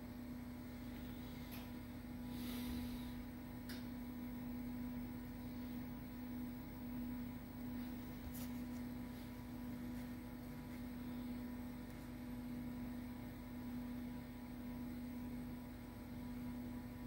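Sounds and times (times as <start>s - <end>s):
computer humming: 0.0s - 17.0s.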